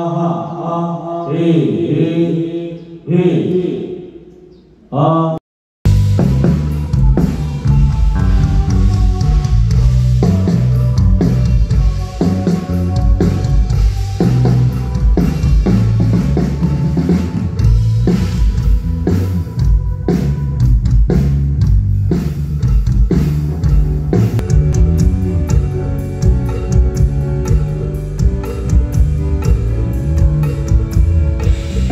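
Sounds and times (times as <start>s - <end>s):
band playing through pa: 5.9s - 31.9s.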